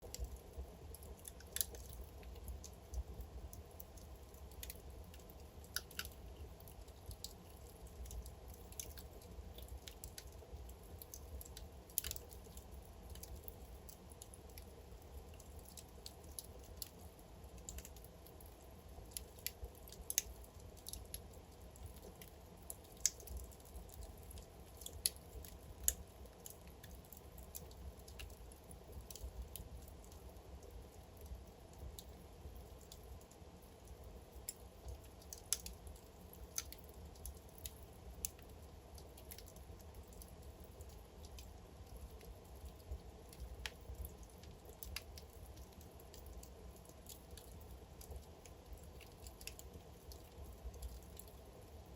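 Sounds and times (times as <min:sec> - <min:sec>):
low rumble of flames: 0:00.0 - 0:51.9
wood fire crackling: 0:00.0 - 0:51.9.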